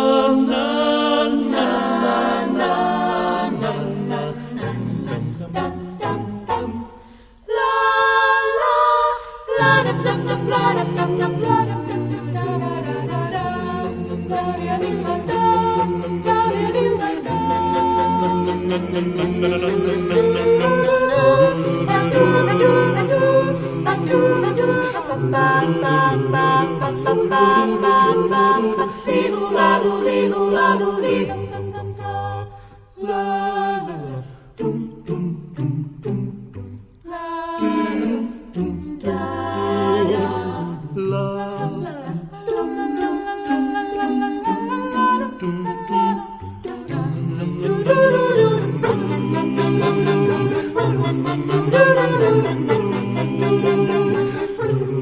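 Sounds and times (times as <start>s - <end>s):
vocal ensemble singing in harmony: 0.0s - 55.0s.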